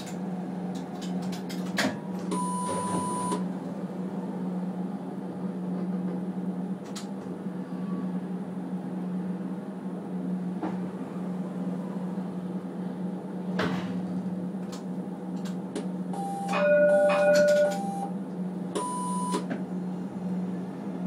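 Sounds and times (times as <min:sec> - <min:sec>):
tram interior hum: 0:00.0 - 0:21.0.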